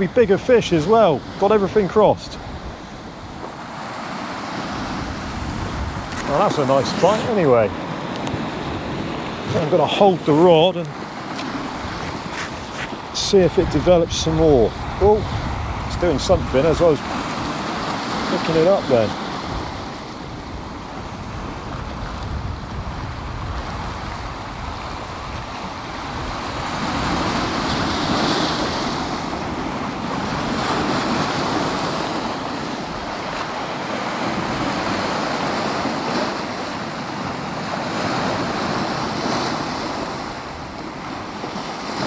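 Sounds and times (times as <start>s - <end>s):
waves breaking on rocky shore: 0.0s - 42.0s.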